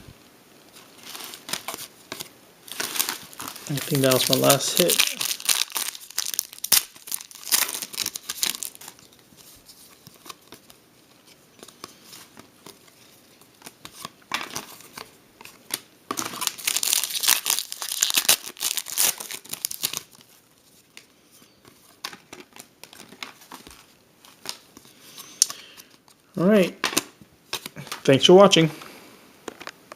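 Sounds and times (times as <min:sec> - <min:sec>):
card wrappers crinkling and tearing: 0:00.7 - 0:21.1, 0:21.9 - 0:26.2.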